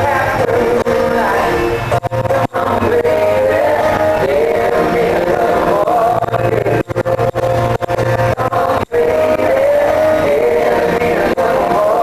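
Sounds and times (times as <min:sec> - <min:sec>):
man singing: 0:00.0 - 0:07.4, 0:08.1 - 0:12.0
live country band playing: 0:00.0 - 0:12.0.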